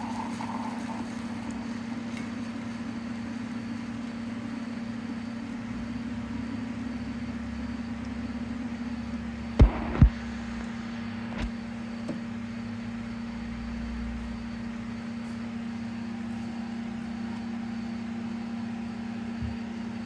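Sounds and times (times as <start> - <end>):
coffee maker humming: 0.0 - 20.0.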